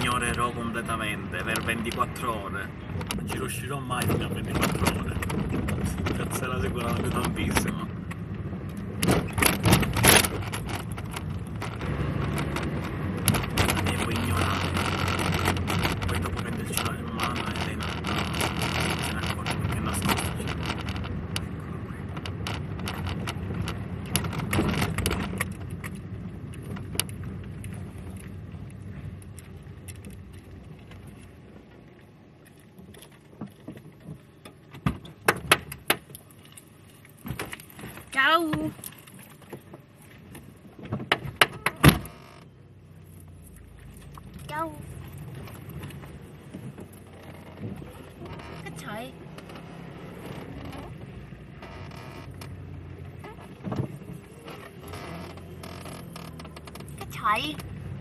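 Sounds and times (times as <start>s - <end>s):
car engine and road noise: 0.0s - 58.0s
clicks and rattles: 2.9s - 57.8s.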